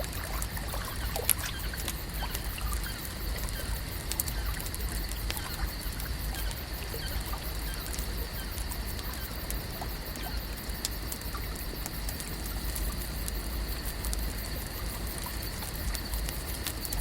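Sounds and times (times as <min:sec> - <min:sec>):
small clicks and crackles: 0:00.0 - 0:17.0.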